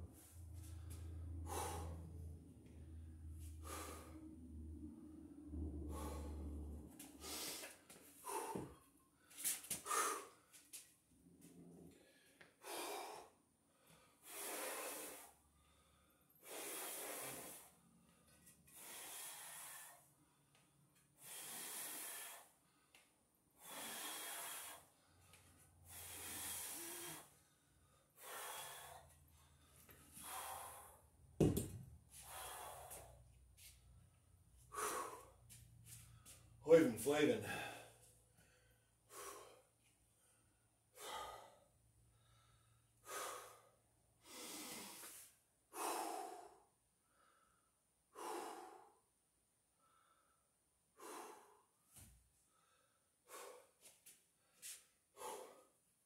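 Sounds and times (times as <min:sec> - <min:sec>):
man breathing hard: 0:00.0 - 0:10.6, 0:11.8 - 0:55.9.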